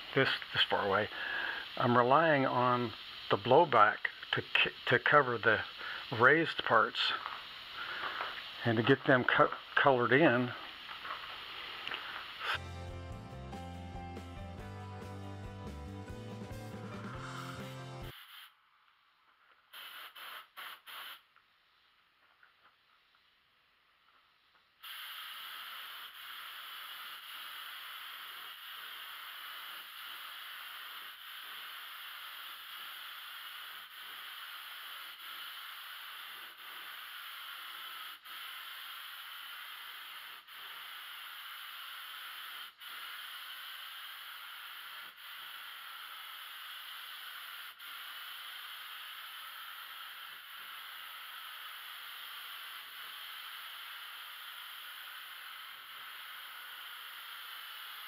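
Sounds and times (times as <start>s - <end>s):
spray paint can hissing: 0.1s - 18.6s, 19.7s - 21.3s, 24.8s - 58.0s.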